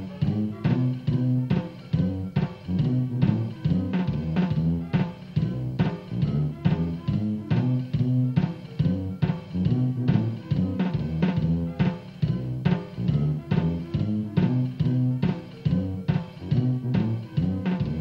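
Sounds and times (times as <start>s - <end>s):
bass line: 0.0s - 18.0s.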